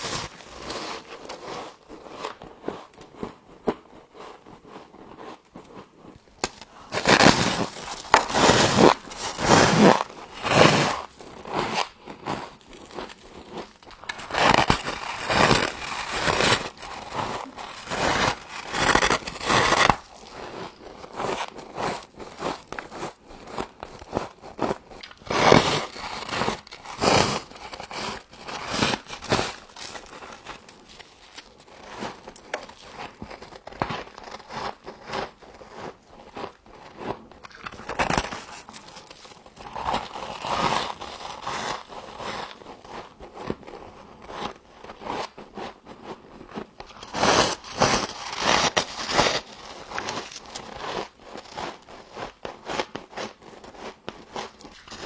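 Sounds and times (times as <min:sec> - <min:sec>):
frost being chewed crunching: 0:00.0 - 0:55.0.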